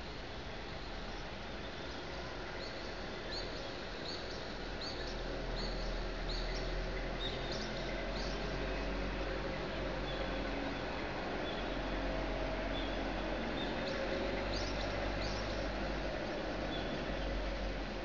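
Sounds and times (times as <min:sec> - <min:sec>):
city background hum and hiss: 0:00.0 - 0:18.0.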